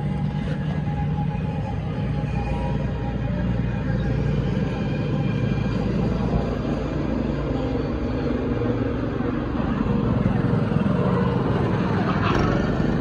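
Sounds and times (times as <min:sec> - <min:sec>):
go-kart engines droning: 0:00.0 - 0:13.0.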